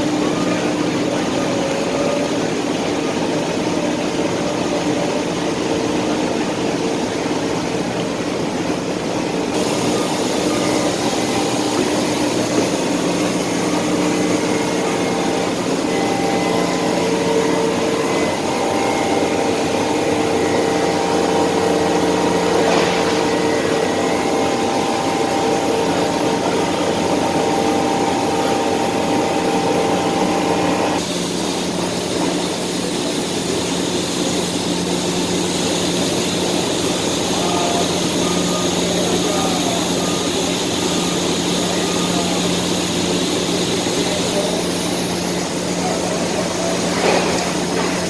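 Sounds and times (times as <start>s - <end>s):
industrial machinery drone: 0.0s - 48.0s.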